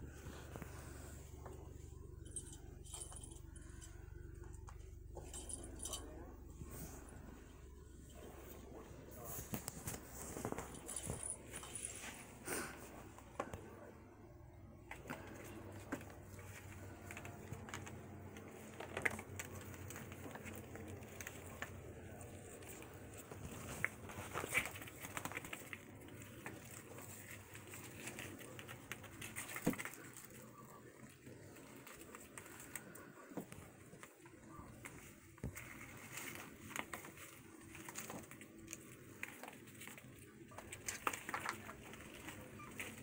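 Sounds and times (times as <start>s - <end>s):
kittens tapping and rustling: 0.0s - 43.0s.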